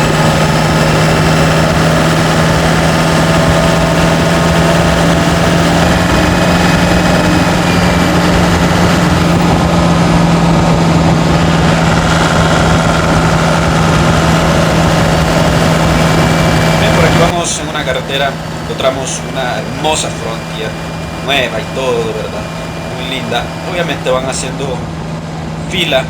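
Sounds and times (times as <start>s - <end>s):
diesel engine drone: 0.0s - 26.0s
road noise: 0.0s - 26.0s.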